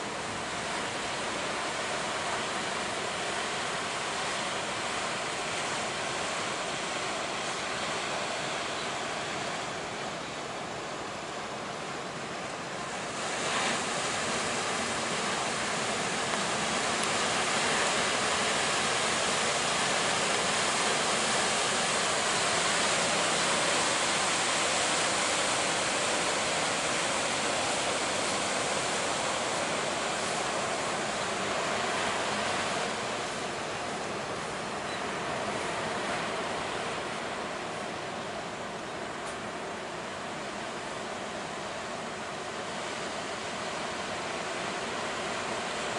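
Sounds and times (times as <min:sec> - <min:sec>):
surf crashing on beach: 0:00.0 - 0:45.9.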